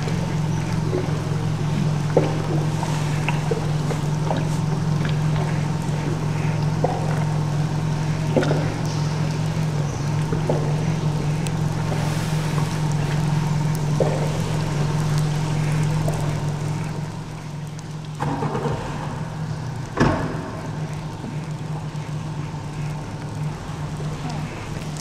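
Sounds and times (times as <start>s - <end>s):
boat motor humming: 0.0s - 25.0s
water noise: 0.0s - 25.0s.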